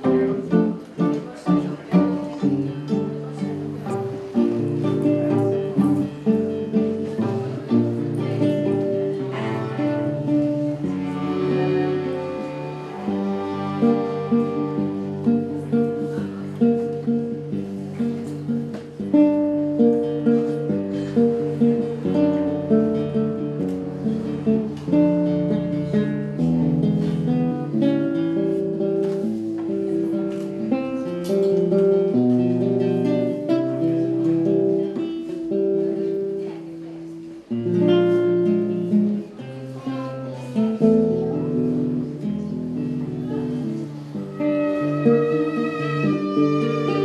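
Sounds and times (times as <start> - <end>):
acoustic guitar music: 0.0 - 47.0.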